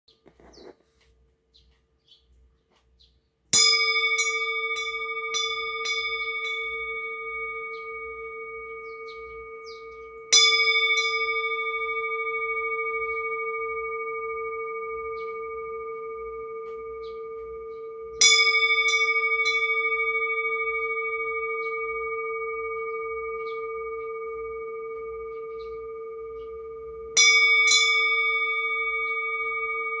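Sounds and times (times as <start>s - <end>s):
metal bell ringing: 3.6s - 30.0s.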